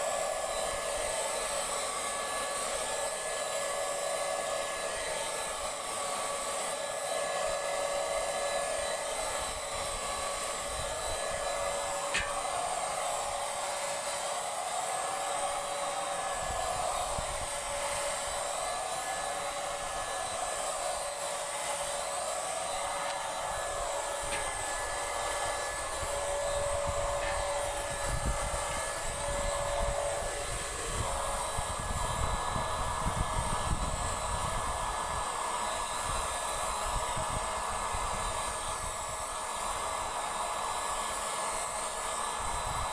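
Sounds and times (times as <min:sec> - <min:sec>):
electric paint sprayer running: 0:00.0 - 0:42.9.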